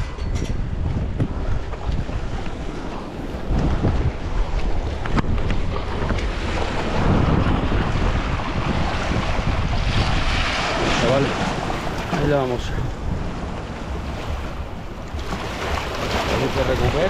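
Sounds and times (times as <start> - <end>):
wind buffeting microphone: 0.0 - 17.0
surf washing against rocks: 1.2 - 17.0.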